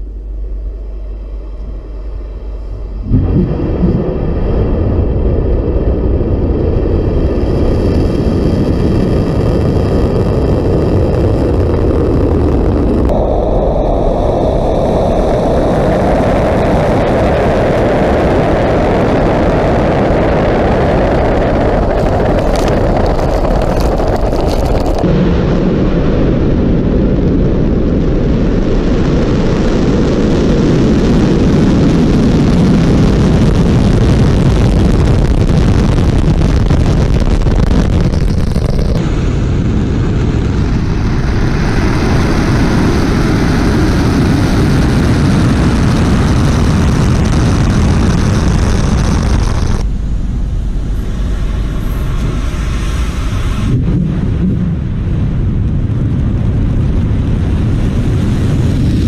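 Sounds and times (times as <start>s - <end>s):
rocket engines roaring: 0.0s - 59.0s.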